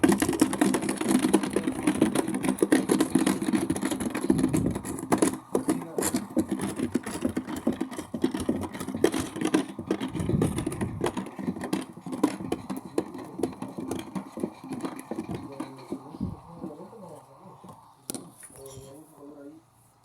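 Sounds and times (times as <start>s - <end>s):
rattling knocks: 0.0s - 16.9s
washing machine spinning: 0.0s - 17.1s.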